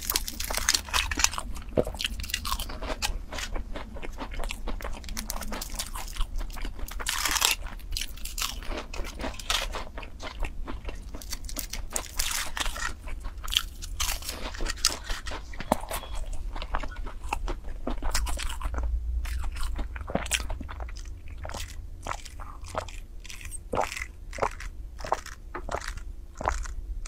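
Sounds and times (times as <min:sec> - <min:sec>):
chewing pastry crunches: 0:00.0 - 0:26.8.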